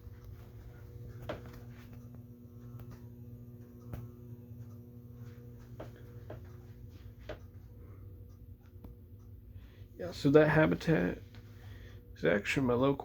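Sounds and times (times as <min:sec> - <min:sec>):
ceiling fan motor humming: 0:00.0 - 0:13.0.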